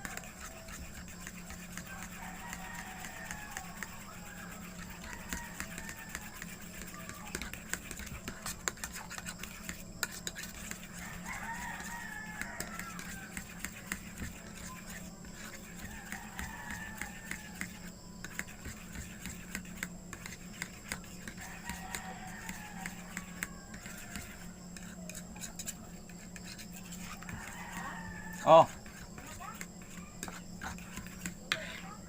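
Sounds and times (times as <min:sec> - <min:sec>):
rooster crowing faintly: 0:00.0 - 0:32.0
steady low hum: 0:00.0 - 0:32.0.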